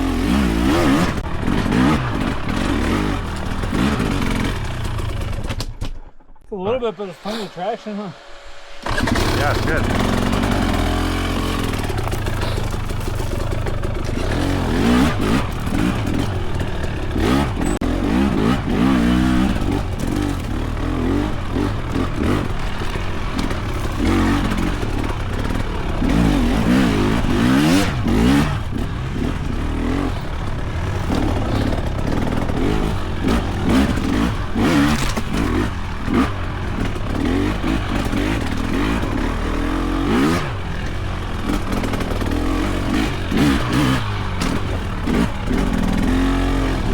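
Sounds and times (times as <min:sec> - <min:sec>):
dirt bike engine revving: 0:00.0 - 0:05.6, 0:06.7 - 0:46.9.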